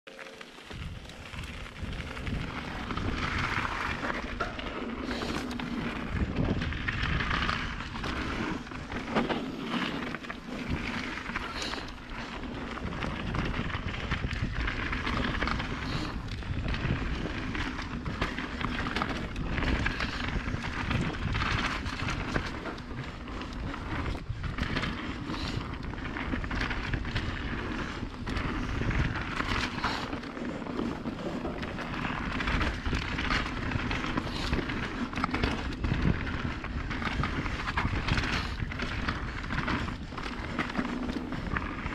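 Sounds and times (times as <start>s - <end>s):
bike tyres rushing over dirt: 0.1s - 41.9s
bike rattling and knocking: 0.6s - 41.9s
wind noise on microphone: 0.6s - 41.9s.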